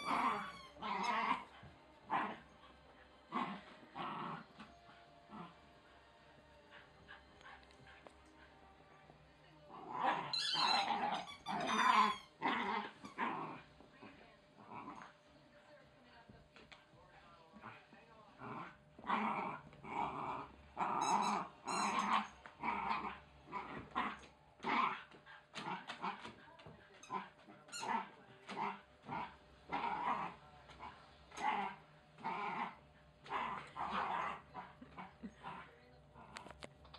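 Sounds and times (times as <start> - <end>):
puppy play-growling: 0.0 - 5.9, 6.7 - 9.0, 9.6 - 15.3, 16.3 - 36.9.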